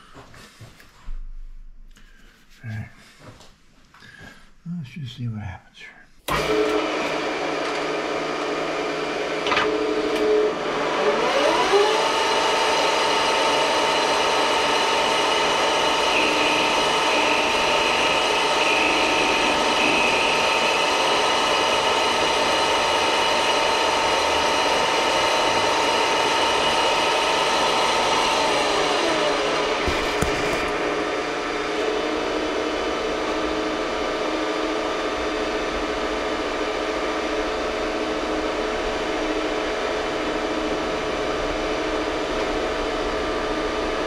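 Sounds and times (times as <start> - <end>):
electric power tool motor: 6.3 - 44.0.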